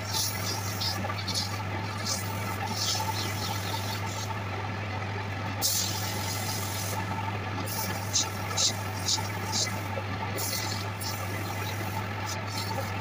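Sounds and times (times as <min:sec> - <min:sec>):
sandpaper hissing on spinning wood: 0:00.0 - 0:04.3, 0:05.6 - 0:07.0, 0:07.7 - 0:13.0
wood lathe humming: 0:00.0 - 0:13.0.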